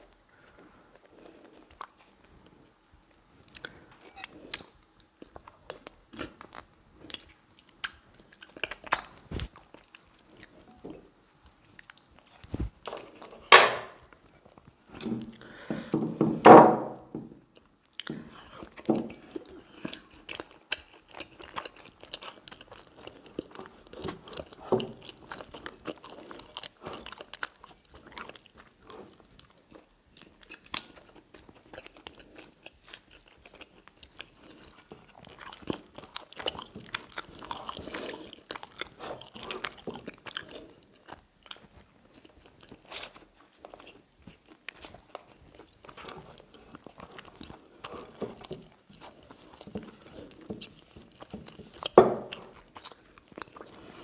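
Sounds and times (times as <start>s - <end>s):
chewing and wet mouth sounds: 0.5s - 13.4s, 17.6s - 54.0s.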